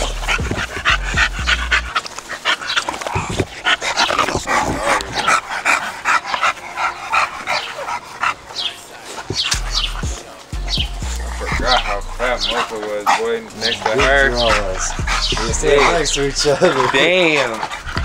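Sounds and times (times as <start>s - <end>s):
dog panting rapidly: 0.0s - 18.0s.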